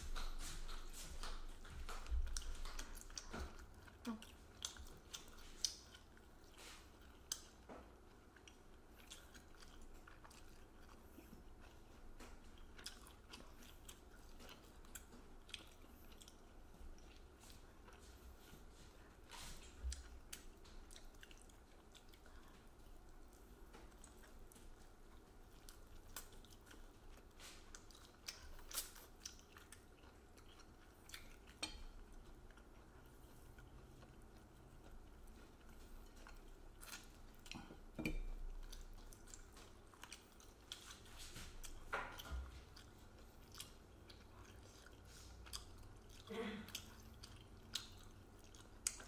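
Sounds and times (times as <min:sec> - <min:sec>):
chewing and biting: 0:00.0 - 0:49.0.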